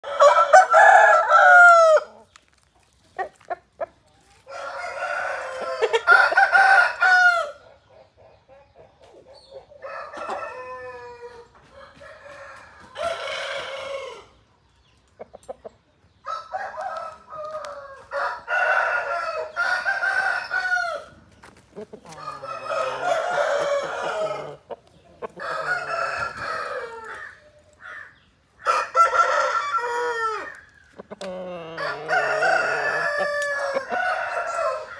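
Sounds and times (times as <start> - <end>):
roosters crowing: 0.0 - 2.3, 4.4 - 7.7, 9.8 - 14.4, 16.2 - 34.9.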